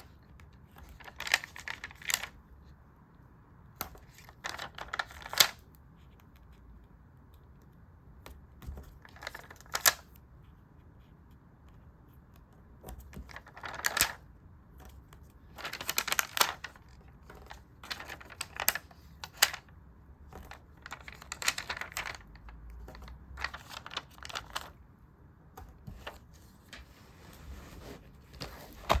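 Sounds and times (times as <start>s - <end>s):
paper and stickers rustling: 0.0s - 2.8s, 3.7s - 29.0s.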